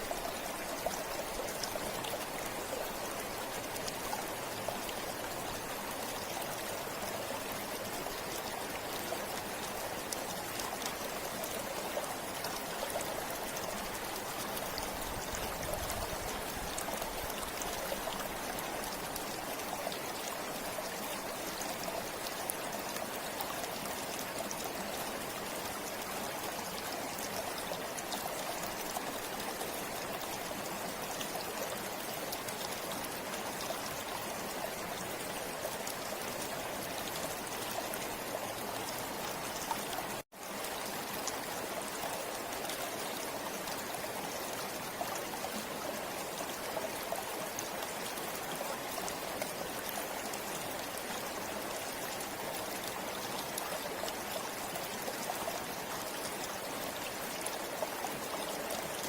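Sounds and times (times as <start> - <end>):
river flowing over rocks: 0.0 - 59.0.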